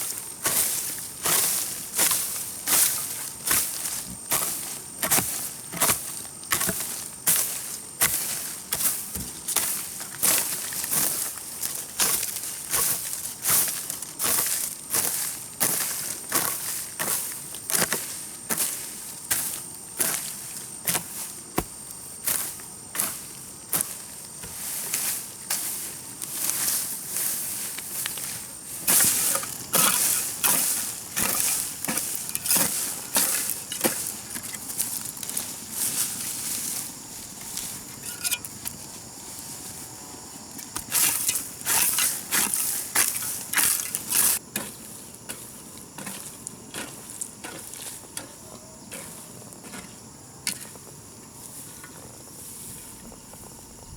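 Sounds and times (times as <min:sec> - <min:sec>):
hoe chopping and scraping soil: 0:00.0 - 0:38.9, 0:40.6 - 0:50.8.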